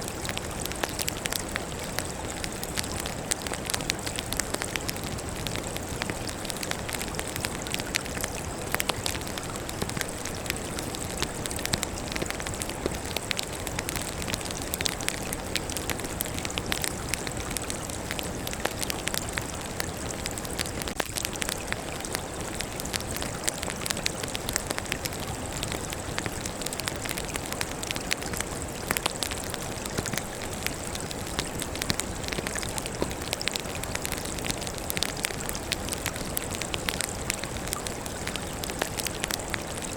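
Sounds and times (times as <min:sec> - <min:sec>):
firewood crackling and popping: 0:00.1 - 0:39.9.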